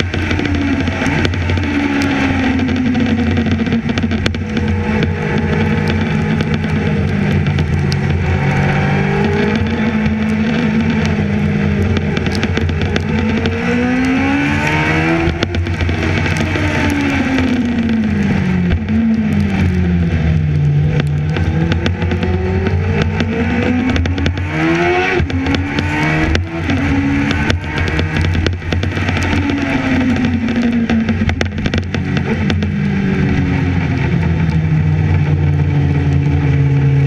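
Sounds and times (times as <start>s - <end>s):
racing engine at high revs: 0.0s - 37.0s.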